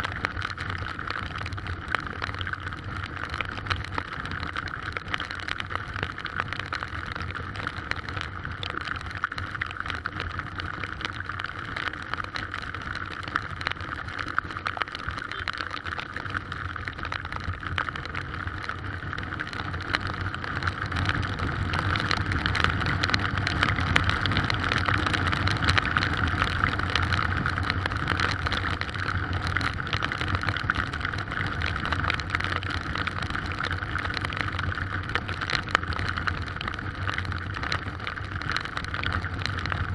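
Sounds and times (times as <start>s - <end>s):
heavy rain patter: 0.0s - 39.9s.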